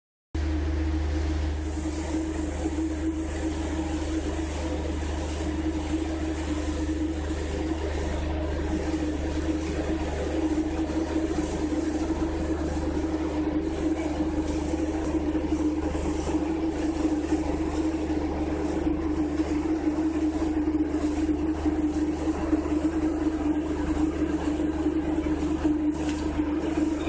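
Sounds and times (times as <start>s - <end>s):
deep engine rumble: 0.4s - 27.0s
ship engines humming: 0.4s - 27.0s.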